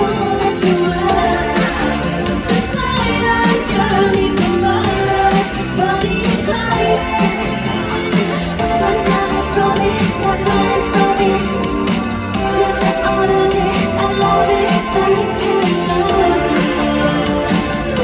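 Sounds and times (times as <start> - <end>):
female group singing pop song: 0.0 - 18.0
loud backing track: 0.0 - 18.0.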